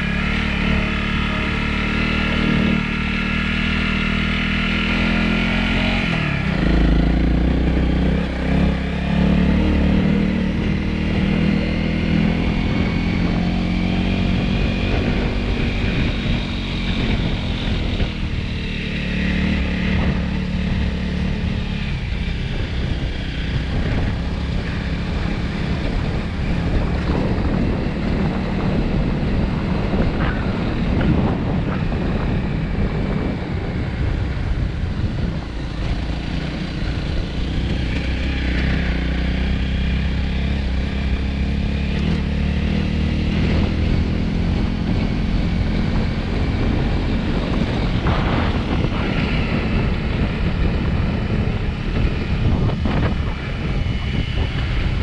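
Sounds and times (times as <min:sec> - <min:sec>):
dirt bike engine running: 0:00.0 - 0:55.0
wind buffeting microphone: 0:02.3 - 0:55.0.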